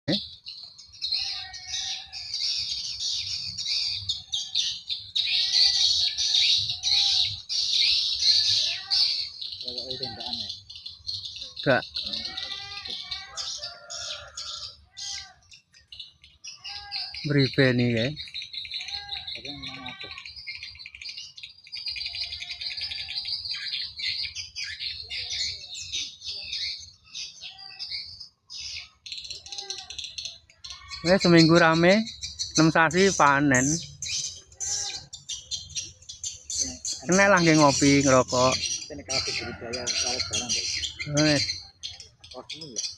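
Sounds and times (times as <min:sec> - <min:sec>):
birds twittering: 0:00.1 - 0:42.9.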